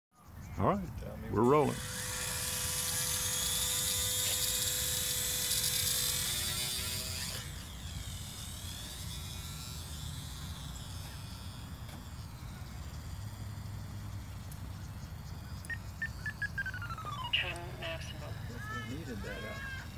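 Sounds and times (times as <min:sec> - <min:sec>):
model plane motor whining: 0:01.4 - 0:19.9.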